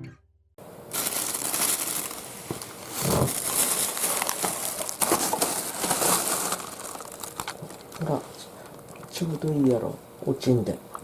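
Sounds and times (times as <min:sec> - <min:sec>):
close rustling and crinkling: 0:00.9 - 0:10.0.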